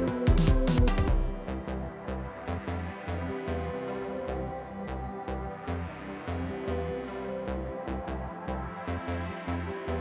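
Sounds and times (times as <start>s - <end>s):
electronic music with pulsing bass: 0.0s - 10.0s.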